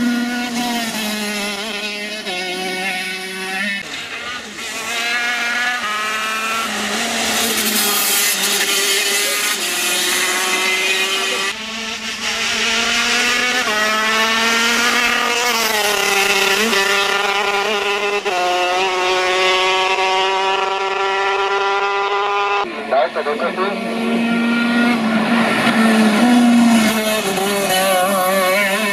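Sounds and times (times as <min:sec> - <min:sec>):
two-stroke kart engine revving: 0:00.0 - 0:28.9.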